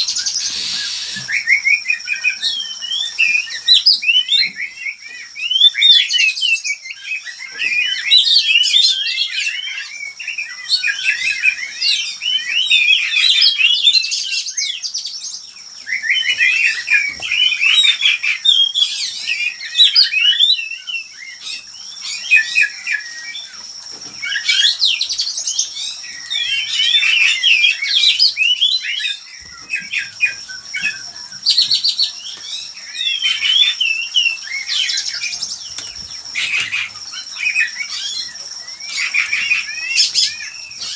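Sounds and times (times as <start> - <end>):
birds chirping and whistling: 0.0 - 40.9.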